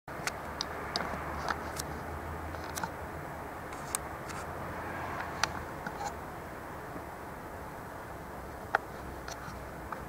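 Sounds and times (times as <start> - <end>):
faint background noise: 0.1 - 10.0.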